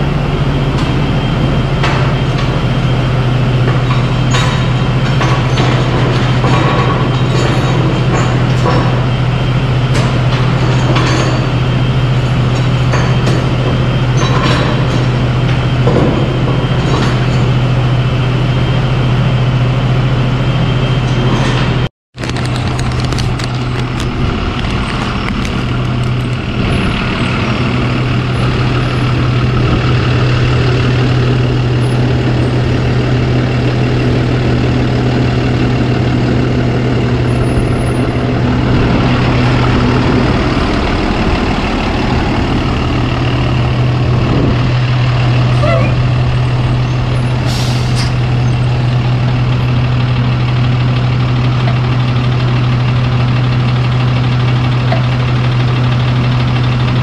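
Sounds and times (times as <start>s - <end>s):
machine droning with low hum: 0.0s - 57.0s.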